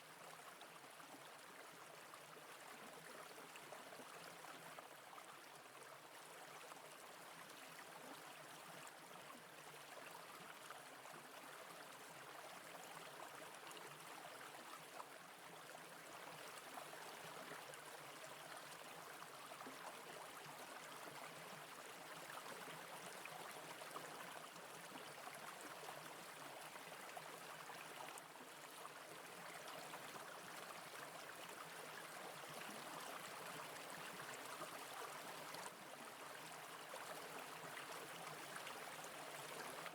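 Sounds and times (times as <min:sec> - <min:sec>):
brook water gurgling: 0:00.0 - 0:39.9.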